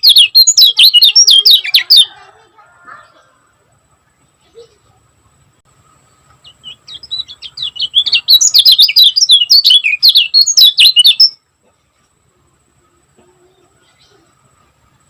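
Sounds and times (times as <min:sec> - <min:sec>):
songbird chirping rapidly: 0:00.0 - 0:15.0.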